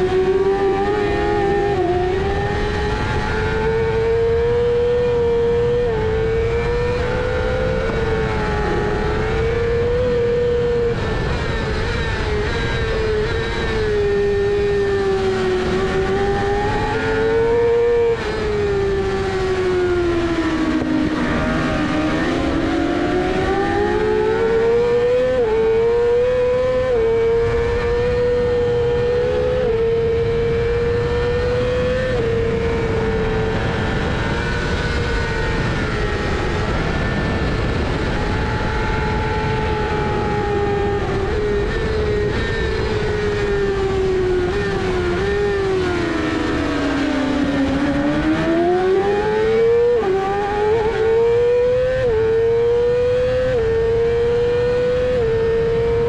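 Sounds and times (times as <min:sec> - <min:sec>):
racing motorcycle engine revving: 0:00.0 - 0:56.0
wind rush: 0:00.0 - 0:56.0.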